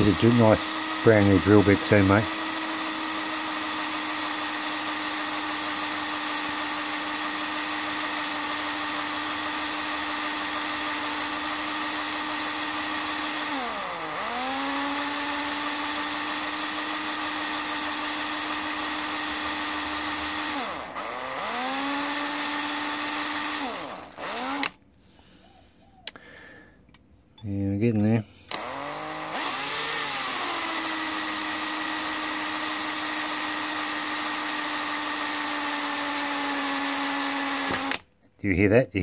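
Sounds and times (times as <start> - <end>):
electric drill drilling metal: 0.0 - 24.8, 28.4 - 38.1.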